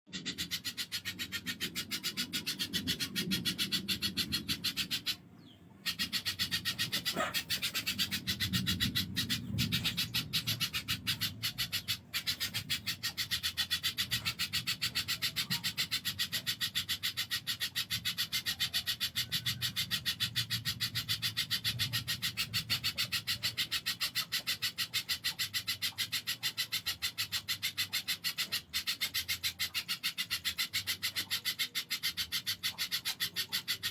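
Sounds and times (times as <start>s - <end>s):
bird calling harsh scratchy notes: 0.1s - 33.9s.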